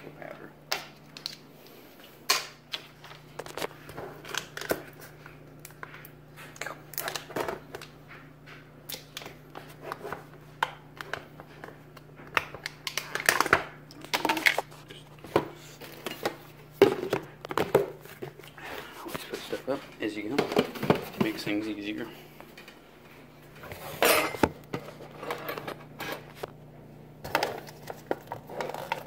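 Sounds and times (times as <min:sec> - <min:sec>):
steady low hum: 0:00.0 - 0:29.0
containers knocking and crinkling: 0:02.3 - 0:21.8, 0:23.4 - 0:26.6, 0:27.2 - 0:29.0.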